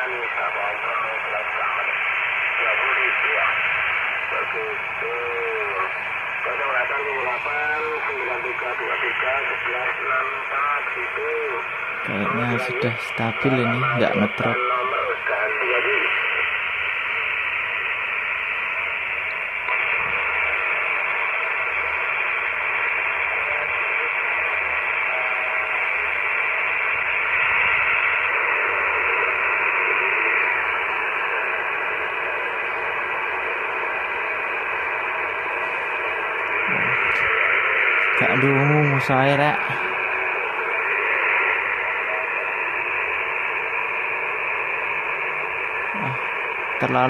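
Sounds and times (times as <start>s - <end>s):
radio static hiss: 0.0s - 47.0s.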